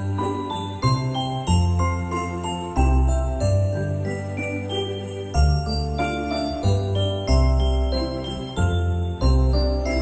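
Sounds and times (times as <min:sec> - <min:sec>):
sleigh bells over bass line: 0:00.0 - 0:10.0.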